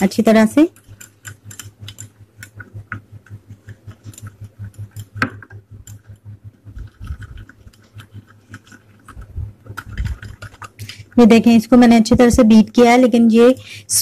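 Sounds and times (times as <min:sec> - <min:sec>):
whisk clicking against glass bowl: 0:00.0 - 0:13.6.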